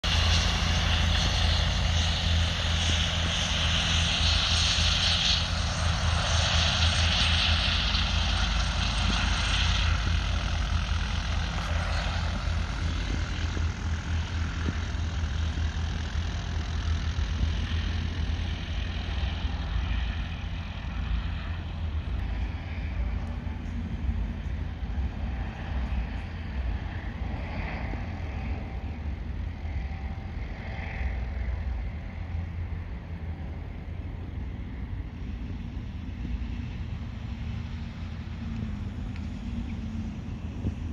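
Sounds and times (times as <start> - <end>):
helicopter rotors beating: 0.0 - 40.9
high turbine whine: 0.0 - 40.9.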